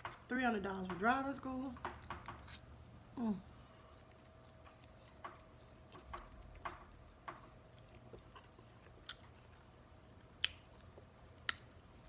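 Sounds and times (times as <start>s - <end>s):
chewing food: 1.7s - 12.0s.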